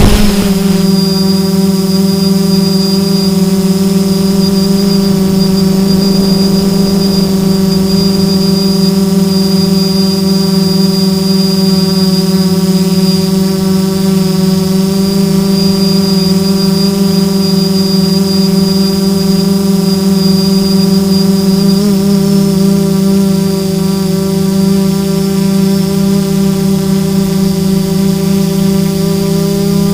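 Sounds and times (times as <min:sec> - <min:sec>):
drone propellers humming: 0:00.0 - 0:29.9
faint high whine: 0:00.0 - 0:29.9.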